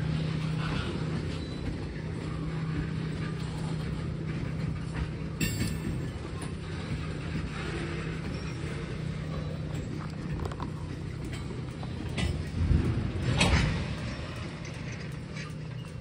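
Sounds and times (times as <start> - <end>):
diesel locomotive engine hum: 0.0 - 16.0
rail noise: 0.0 - 16.0.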